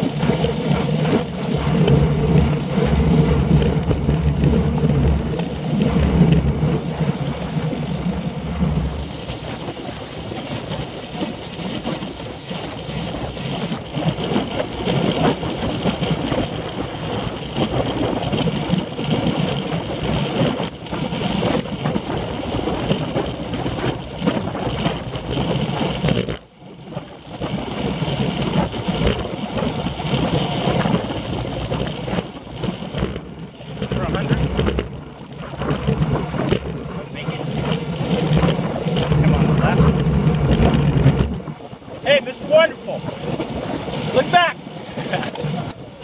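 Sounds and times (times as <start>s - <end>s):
road and tyre noise: 0.0s - 46.0s
wind on microphone: 0.0s - 46.0s.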